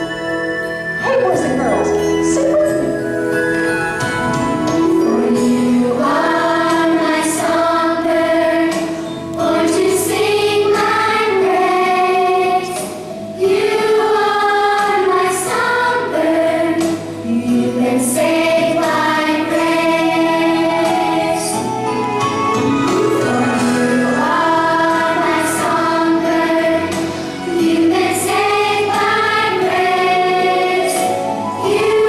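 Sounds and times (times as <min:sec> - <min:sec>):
children's choir singing: 0:04.8 - 0:32.0.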